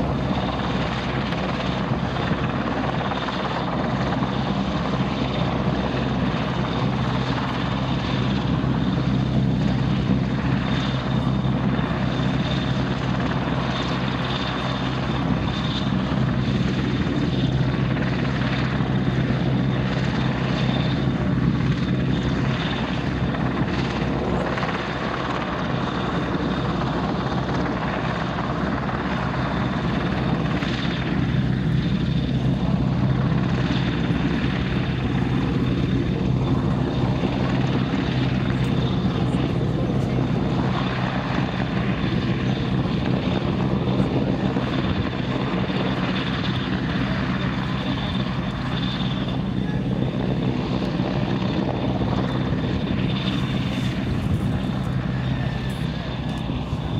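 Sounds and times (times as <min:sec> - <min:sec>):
helicopter hovering: 0:00.0 - 0:56.9.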